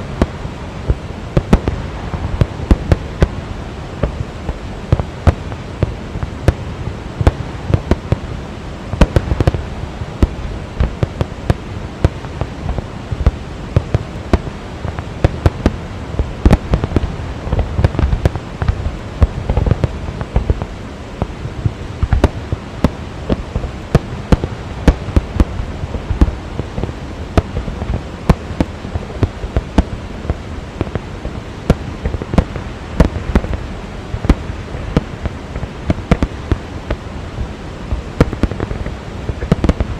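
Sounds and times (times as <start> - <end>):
fireworks bangs: 0.0 - 39.9
rushing waterfall: 0.0 - 39.9.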